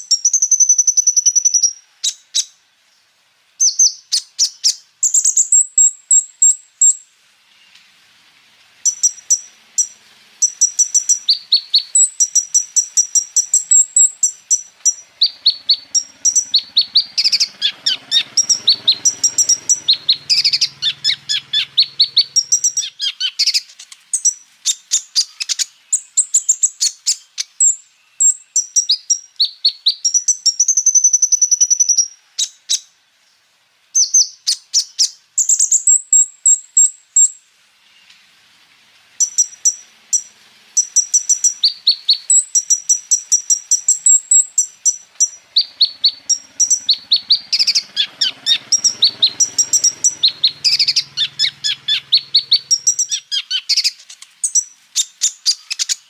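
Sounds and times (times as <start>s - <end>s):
bird singing chips and trills: 0.0s - 2.6s, 3.6s - 7.8s, 8.8s - 33.0s, 34.0s - 38.2s, 39.2s - 56.0s.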